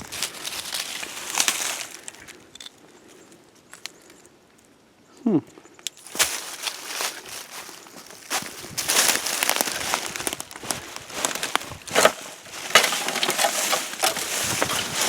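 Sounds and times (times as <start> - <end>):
twigs crunching underfoot: 0.0 - 4.3, 5.8 - 15.0.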